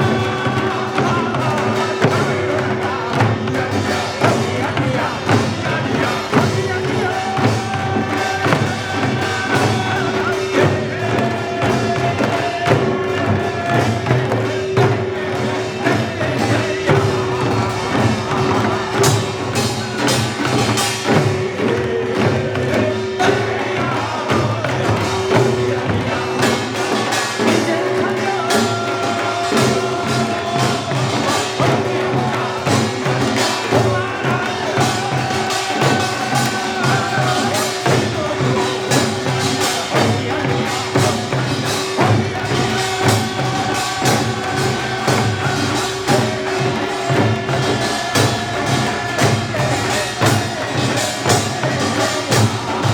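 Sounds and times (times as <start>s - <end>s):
fast gong and drum percussion: 0.0s - 52.9s.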